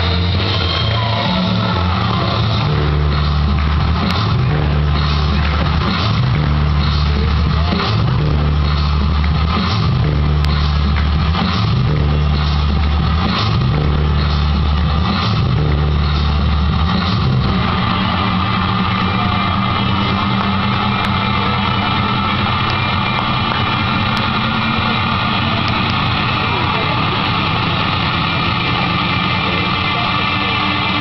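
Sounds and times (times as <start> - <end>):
loud distorted dance music: 0.0 - 31.0.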